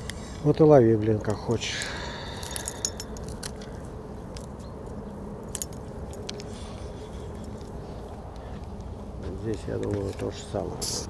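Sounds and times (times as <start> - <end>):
low steady rumble: 0.0 - 9.6.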